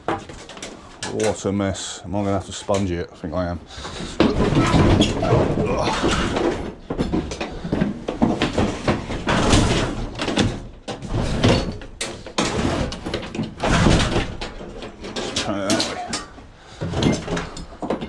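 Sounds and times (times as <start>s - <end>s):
scrap appliances knocking and scraping: 0.0s - 1.7s, 2.7s - 18.0s.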